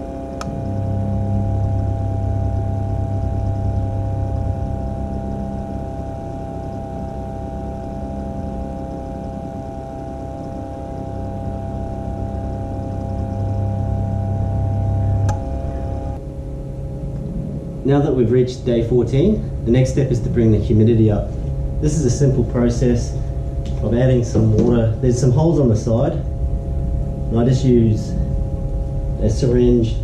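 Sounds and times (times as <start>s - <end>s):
constant high whine: 0.0s - 30.0s
motor humming: 0.0s - 30.0s.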